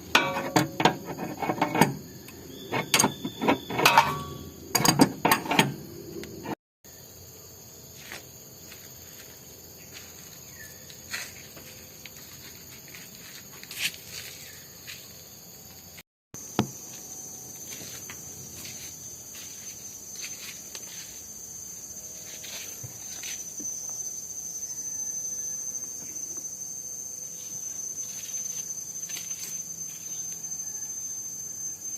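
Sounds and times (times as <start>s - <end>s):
high thin insect drone: 5.7s - 31.9s.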